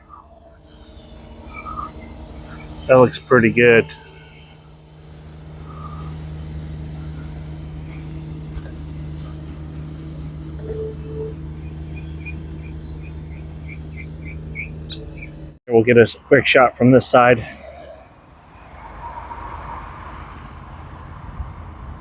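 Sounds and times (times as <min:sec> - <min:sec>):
low engine-like hum: 0:00.0 - 0:22.0.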